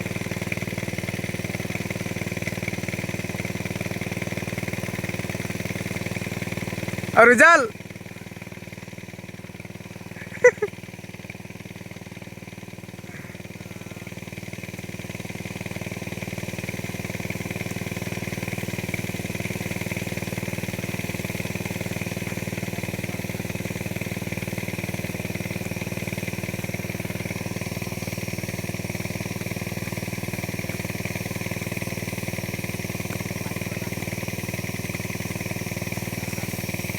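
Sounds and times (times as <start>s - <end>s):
crop sprayer engine running: 0.0s - 36.9s.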